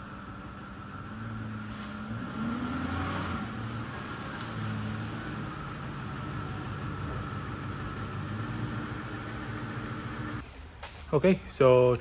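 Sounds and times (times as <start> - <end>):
pickup truck engine running: 0.0 - 10.4.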